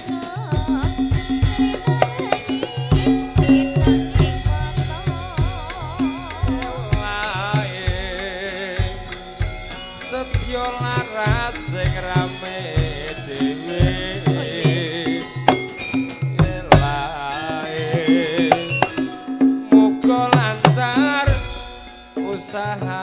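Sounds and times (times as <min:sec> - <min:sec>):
hand drum strokes: 0:00.0 - 0:22.0
gamelan ensemble music: 0:00.0 - 0:23.0.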